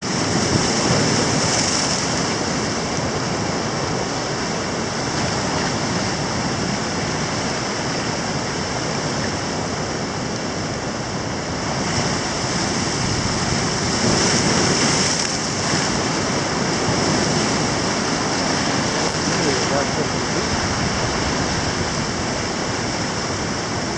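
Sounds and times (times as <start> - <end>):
ocean waves breaking on beach: 0.0 - 23.9.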